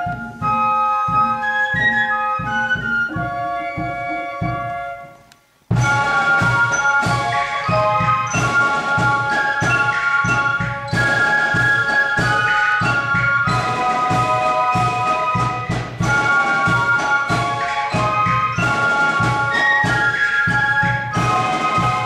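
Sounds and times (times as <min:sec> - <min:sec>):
fife band playing: 0:00.0 - 0:22.0
steady drum beat: 0:00.0 - 0:22.0.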